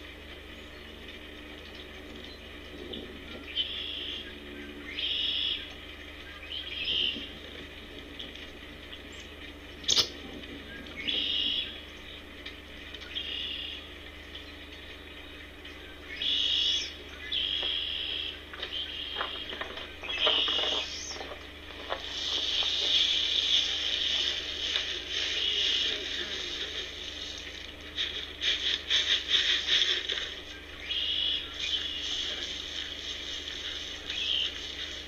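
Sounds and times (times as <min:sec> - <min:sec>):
birds calling harshly: 0:01.8 - 0:07.3, 0:08.9 - 0:35.0.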